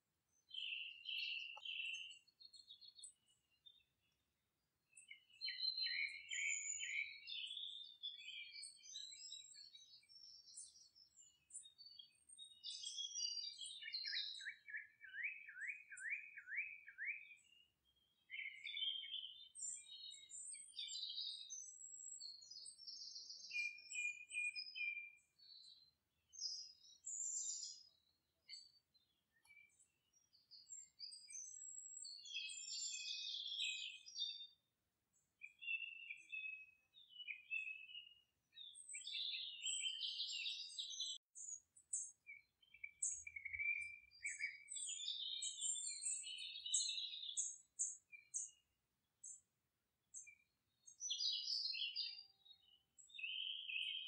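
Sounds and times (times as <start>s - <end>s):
birds chirping and singing: 0.4s - 3.8s, 4.9s - 34.6s, 35.4s - 48.6s, 50.1s - 54.0s.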